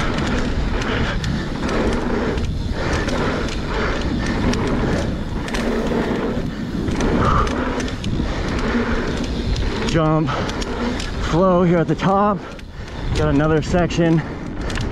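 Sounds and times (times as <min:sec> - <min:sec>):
bike rattling and clicking: 0:00.0 - 0:14.9
mountain bike tyres on dirt: 0:00.0 - 0:14.9.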